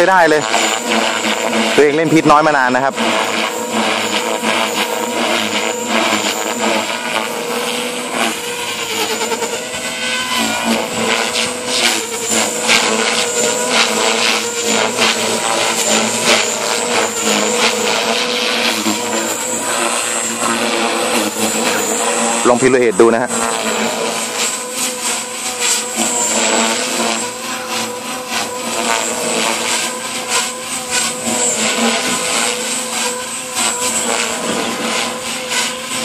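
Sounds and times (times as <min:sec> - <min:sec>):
model helicopter rotor whine: 0:00.0 - 0:36.0.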